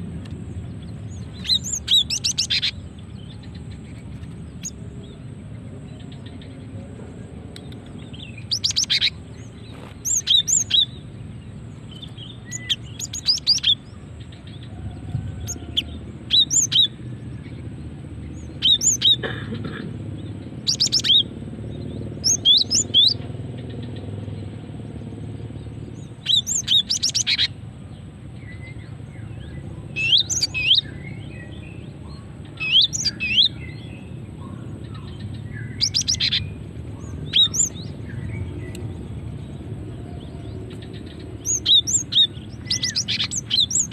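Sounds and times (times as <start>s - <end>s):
low background rumble: 0.0s - 43.9s
bird high chirping calls: 0.2s - 17.7s, 18.3s - 19.3s, 20.2s - 24.2s, 25.7s - 43.9s.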